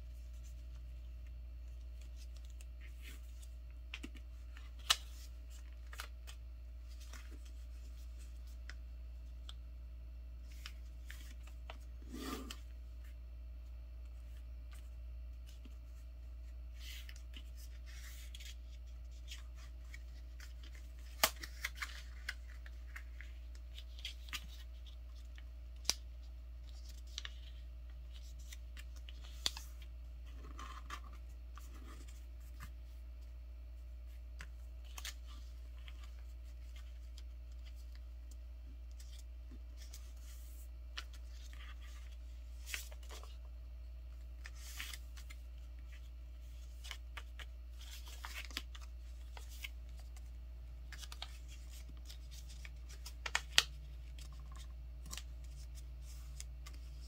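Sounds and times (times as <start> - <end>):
paper rustling and folding: 0.0 - 9.6, 14.1 - 57.0.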